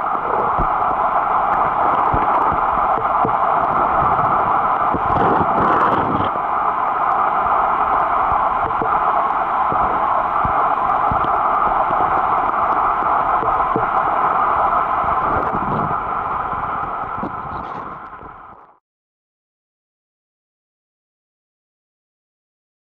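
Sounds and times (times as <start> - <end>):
muffled underwater noise: 0.0 - 18.8
rush of water: 0.0 - 18.8.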